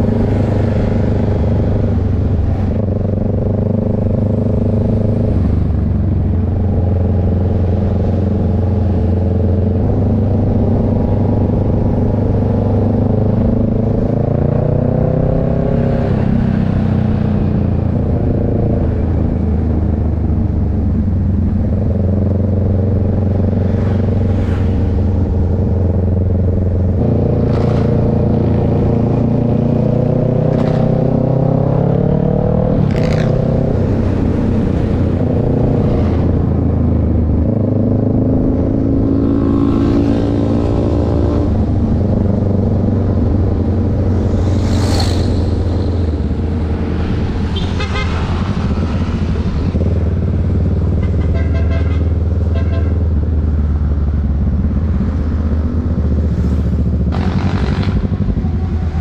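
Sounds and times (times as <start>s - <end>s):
motorcycle engine accelerating: 0.0s - 51.3s, 53.2s - 59.0s
road noise: 0.0s - 59.0s.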